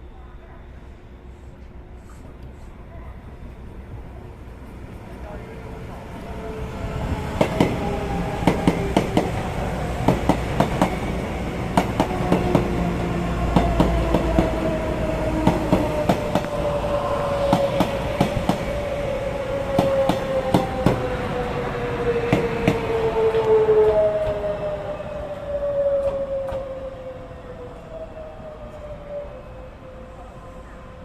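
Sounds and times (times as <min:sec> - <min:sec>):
train running past: 0:00.0 - 0:31.0.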